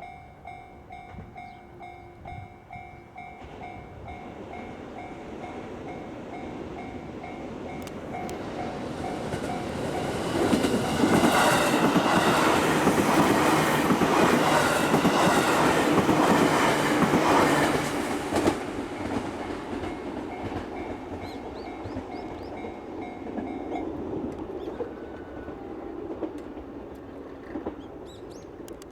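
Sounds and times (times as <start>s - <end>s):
train wheels clattering: 3.3s - 28.2s.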